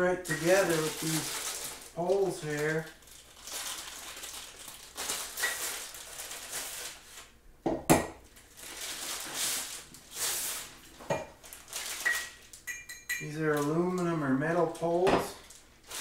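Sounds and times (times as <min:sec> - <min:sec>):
plastic packaging crinkling: 0:00.0 - 0:07.4, 0:08.3 - 0:16.0.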